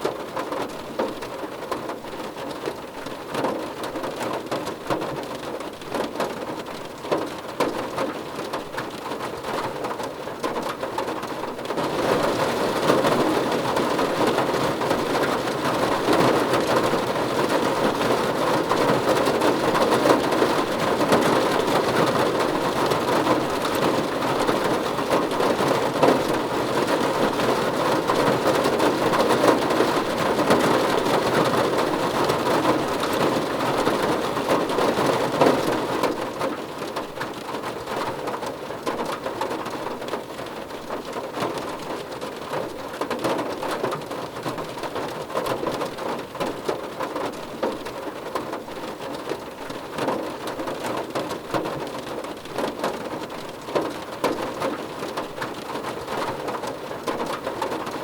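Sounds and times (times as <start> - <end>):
rain falling on a car roof: 0.0 - 58.0.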